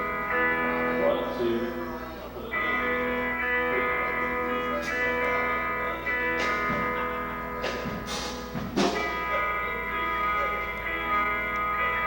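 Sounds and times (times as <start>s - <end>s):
held chord through pa: 0.0s - 12.0s.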